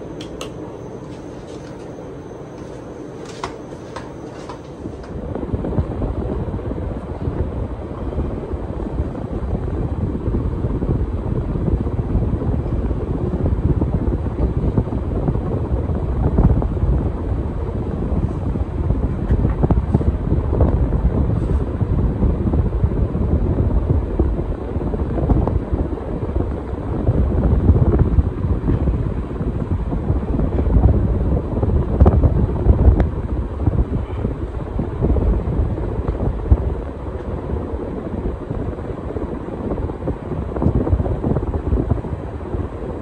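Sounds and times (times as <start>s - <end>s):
ceiling fan air rush: 0.0s - 43.0s.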